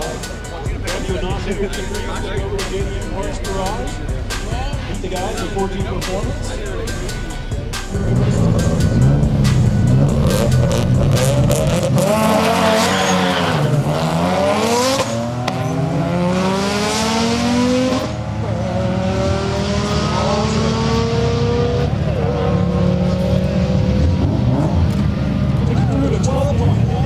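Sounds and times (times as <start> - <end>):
drag racing engines at full throttle: 0.0 - 27.0.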